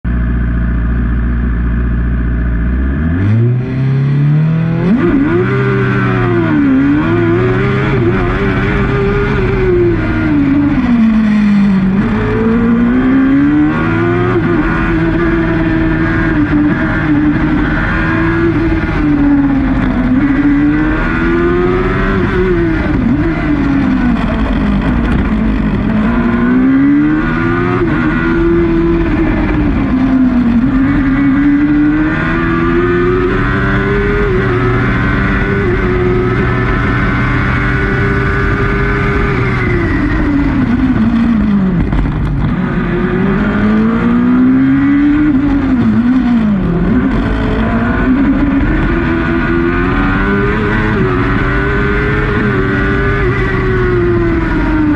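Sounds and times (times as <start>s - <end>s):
racing car engine revving: 2.4s - 54.9s.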